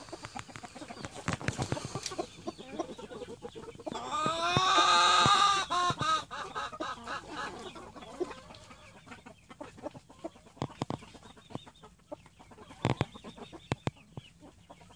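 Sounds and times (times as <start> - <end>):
chickens clucking: 0.0 - 14.9
chickens pecking cabbage leaves: 0.0 - 14.9.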